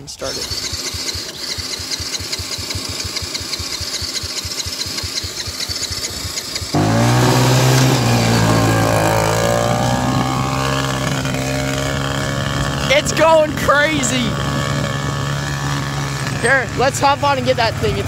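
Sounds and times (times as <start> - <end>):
quad bike engine revving: 0.0 - 18.0.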